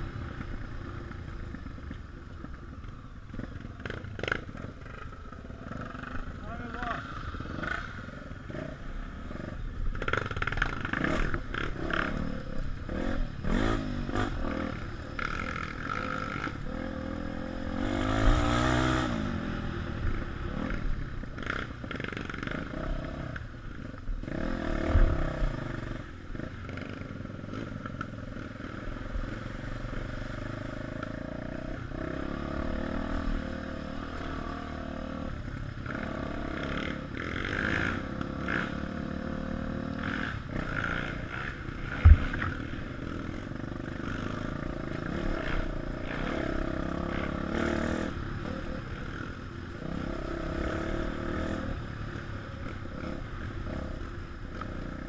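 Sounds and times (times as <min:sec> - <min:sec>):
motorcycle engines revving: 0:00.0 - 0:55.0.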